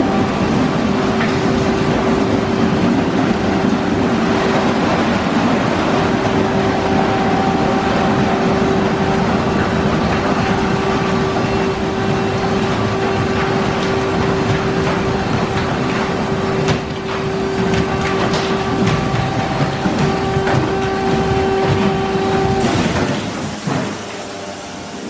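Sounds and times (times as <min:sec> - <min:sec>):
car wash motor hum: 0:00.0 - 0:25.0.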